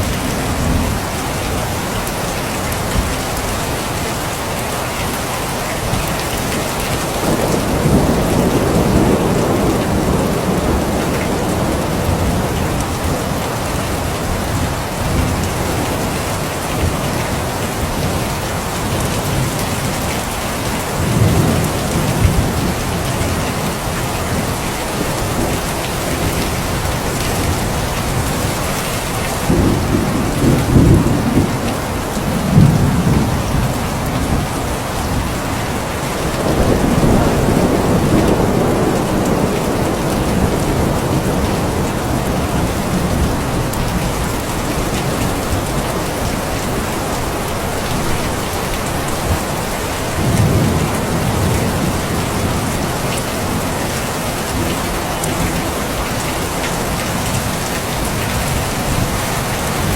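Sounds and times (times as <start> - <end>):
heavy rain: 0.0 - 59.9
thunder rumbling: 5.8 - 59.9.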